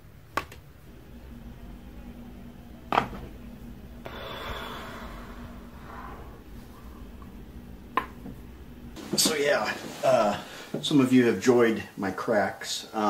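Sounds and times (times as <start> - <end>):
soft rush of noise: 0.8 - 13.0.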